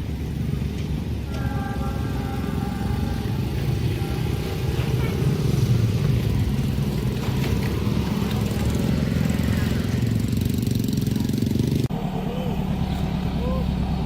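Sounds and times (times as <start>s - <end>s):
train passing rumble: 0.0s - 14.0s.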